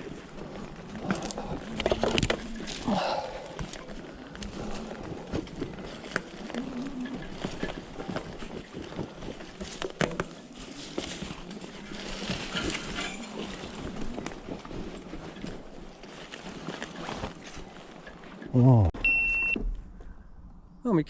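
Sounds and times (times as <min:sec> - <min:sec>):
cracks knocks and rattles: 0:00.0 - 0:18.2
rustling undergrowth: 0:00.0 - 0:18.8.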